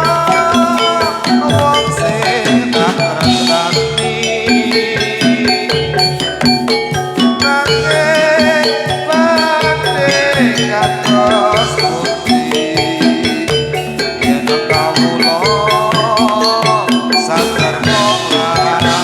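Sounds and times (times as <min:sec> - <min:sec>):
metallophones playing struck notes: 0:00.0 - 0:19.0
rattling percussion: 0:00.0 - 0:19.0
wavering held melody: 0:00.0 - 0:19.0.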